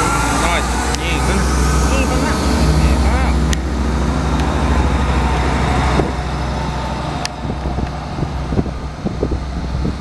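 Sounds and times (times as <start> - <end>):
train diesel engines humming: 0.0 - 10.0.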